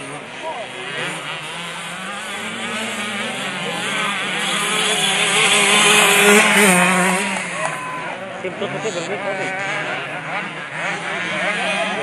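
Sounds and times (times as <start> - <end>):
dirt bikes racing past: 0.0 - 12.0.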